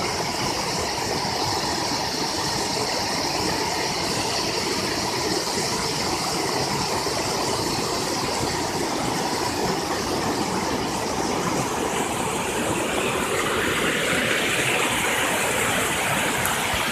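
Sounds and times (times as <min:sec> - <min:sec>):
creek rushing over rocks: 0:00.0 - 0:16.9.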